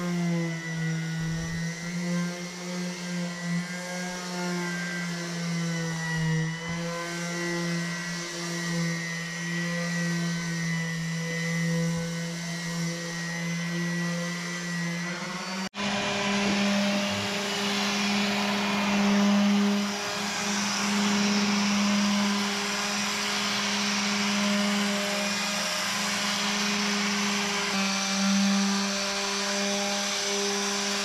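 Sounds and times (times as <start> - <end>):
electric sander motor hum: 0.0 - 31.0.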